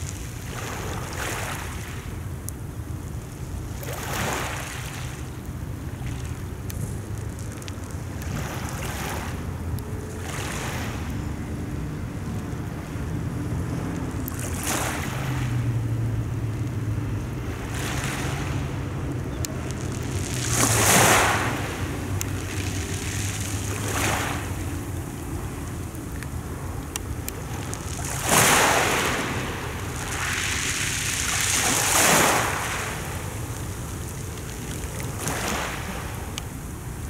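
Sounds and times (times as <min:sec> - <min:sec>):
waves washing onto pebbles: 0:00.0 - 0:37.0.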